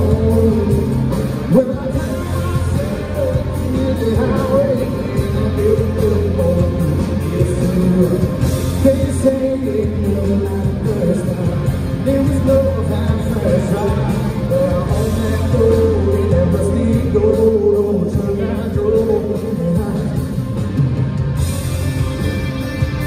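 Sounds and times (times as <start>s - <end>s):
man singing: 0.0s - 20.6s
drum kit: 0.0s - 23.0s
electric guitars: 0.0s - 23.0s.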